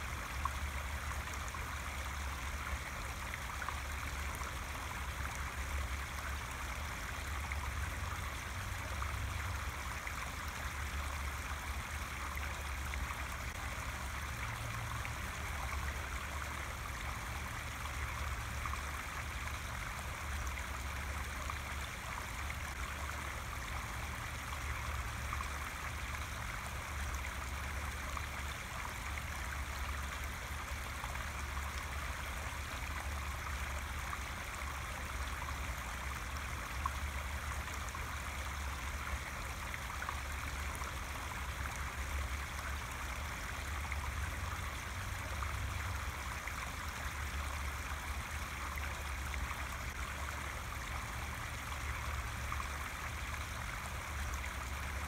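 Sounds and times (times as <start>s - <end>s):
stream running over stones: 0.0s - 55.0s.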